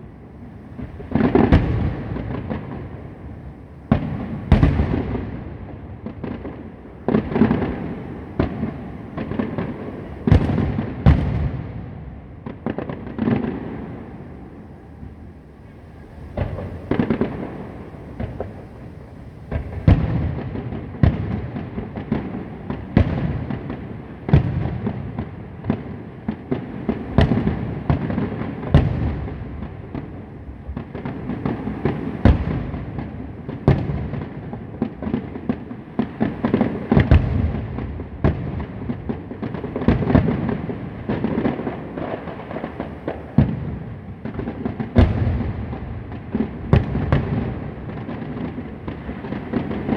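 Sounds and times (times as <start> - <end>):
fireworks bangs and booms: 0.0 - 49.9
distant explosions rumble: 0.7 - 49.9.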